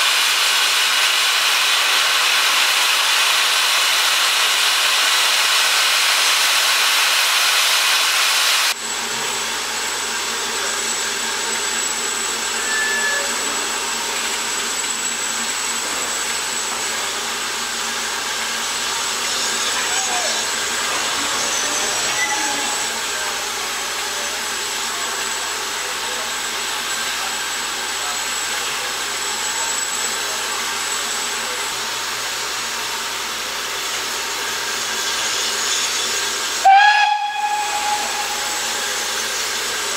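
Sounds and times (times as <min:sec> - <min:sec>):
bright steam hiss: 0:00.0 - 0:39.9
steam locomotive hissing: 0:00.0 - 0:39.9.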